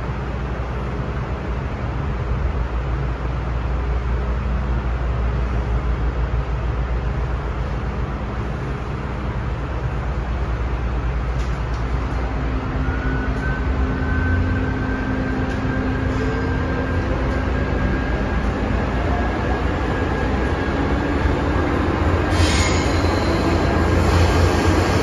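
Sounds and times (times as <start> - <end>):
train rumbling through tunnel: 0.0 - 25.0.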